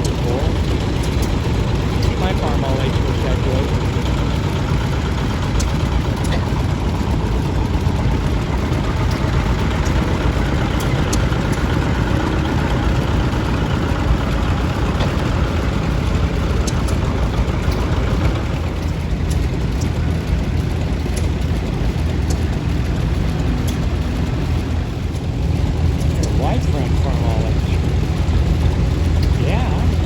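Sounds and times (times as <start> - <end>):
tractor engines running: 0.0 - 30.0.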